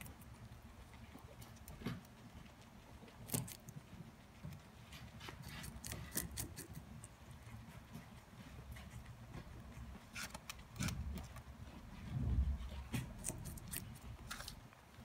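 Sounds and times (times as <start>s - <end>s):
guinea pig chewing cucumber: 0.0s - 15.0s.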